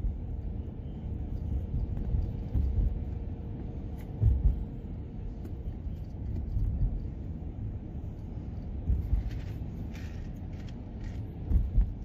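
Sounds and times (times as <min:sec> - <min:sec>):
low bumps: 0:00.0 - 0:12.0
tyres and engine rumble: 0:00.0 - 0:12.0.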